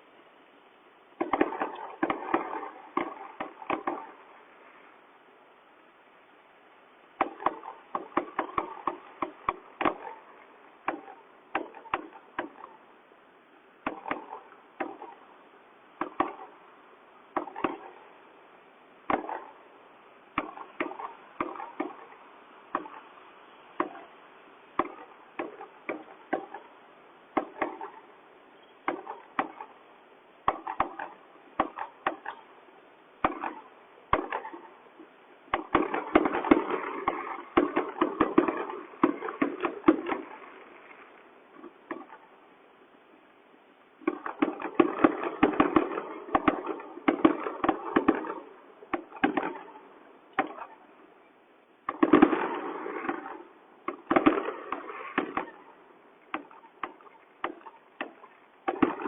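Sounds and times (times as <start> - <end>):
fireworks and firecrackers banging: 1.2 - 4.4, 7.2 - 12.8, 13.8 - 15.3, 15.9 - 18.2, 19.0 - 19.7, 20.3 - 32.5, 33.2 - 42.4, 44.0 - 51.0, 51.8 - 59.0.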